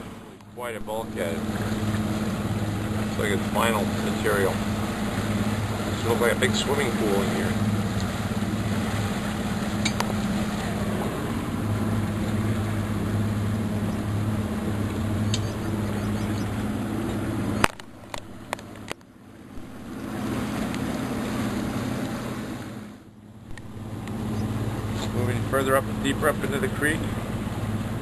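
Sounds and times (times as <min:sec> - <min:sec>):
boat motor humming: 0:00.0 - 0:28.0
water noise: 0:00.0 - 0:28.0.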